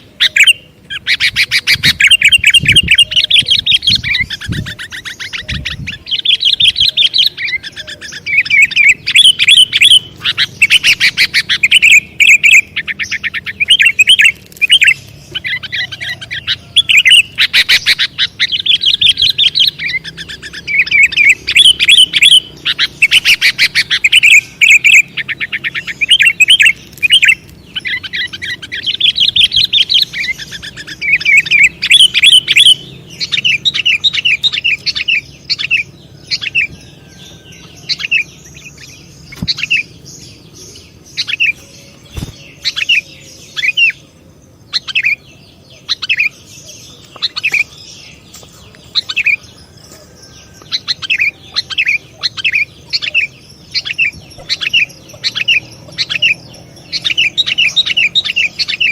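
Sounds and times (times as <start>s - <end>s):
bulbul chirping song: 0.0s - 58.9s.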